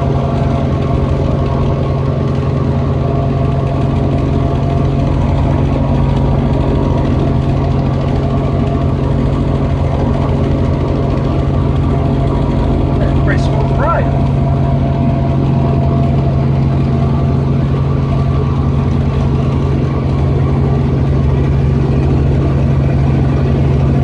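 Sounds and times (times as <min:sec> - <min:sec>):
helicopter engine and rotors: 0:00.0 - 0:24.0.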